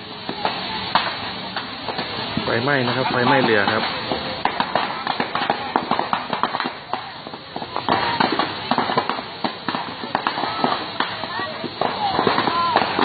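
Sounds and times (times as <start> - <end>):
burning bamboo popping and cracking: 0.0 - 13.0.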